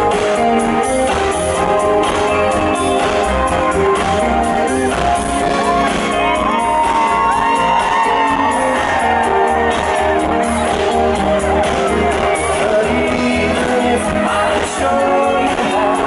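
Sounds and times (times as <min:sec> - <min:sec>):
live pop-rock band: 0:00.0 - 0:16.0
crowd shouts and whoops: 0:01.5 - 0:16.0.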